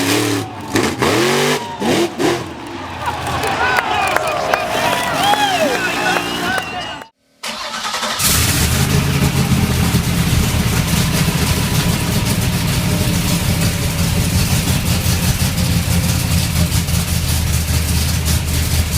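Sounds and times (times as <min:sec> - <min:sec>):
truck engine running with crackling exhaust: 0:00.0 - 0:07.1, 0:08.2 - 0:18.9.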